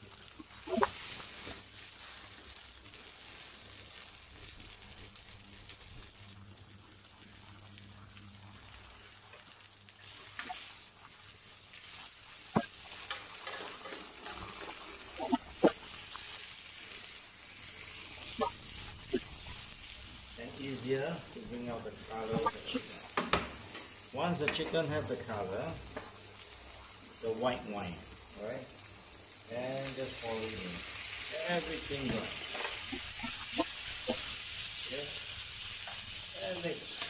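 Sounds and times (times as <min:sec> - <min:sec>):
food sizzling in a frying pan: 0:00.0 - 0:37.0.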